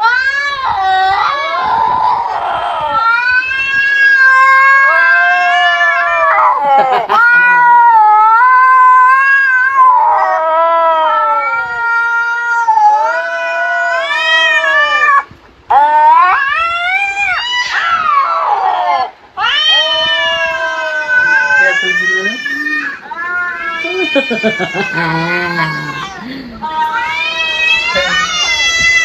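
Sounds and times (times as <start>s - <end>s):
recorded cat yowling through phone: 0.0s - 29.0s.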